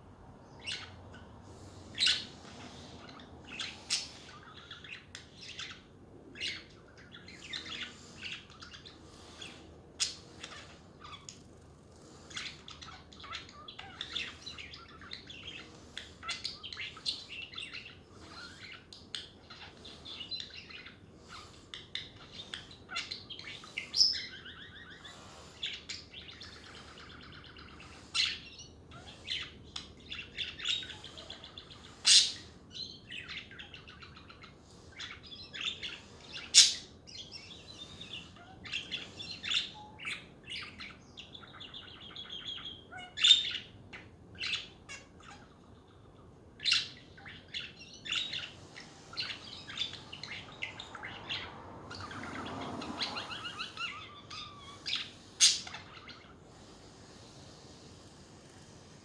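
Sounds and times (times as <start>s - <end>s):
sharp bird calls: 0.0s - 59.0s
budgerigars chattering: 0.6s - 11.4s, 12.0s - 57.8s.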